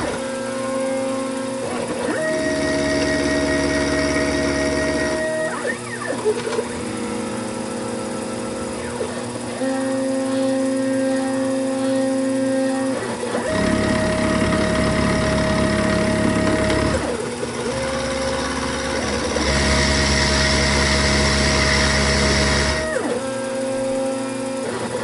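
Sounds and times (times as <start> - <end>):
milling machine motor whine: 0.0 - 25.0.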